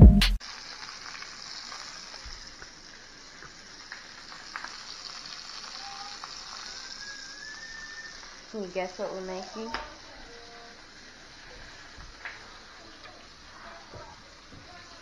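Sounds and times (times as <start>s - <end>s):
sausages sizzling in a skillet: 0.4s - 15.0s.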